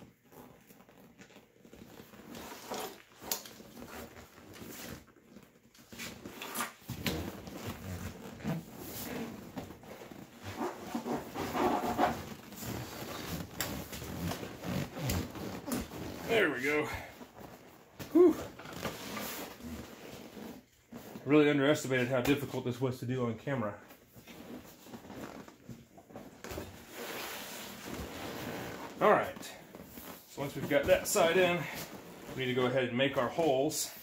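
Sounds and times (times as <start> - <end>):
vinyl rustling and creaking: 0.0 - 34.0.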